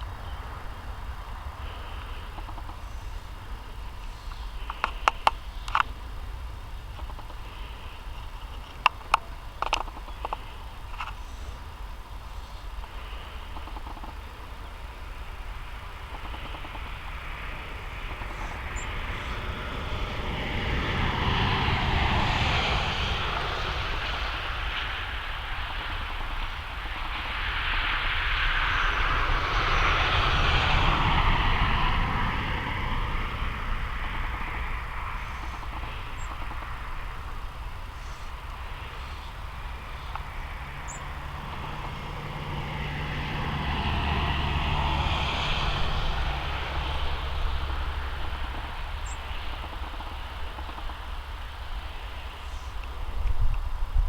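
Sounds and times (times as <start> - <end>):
aircraft drone overhead: 0.0 - 54.0.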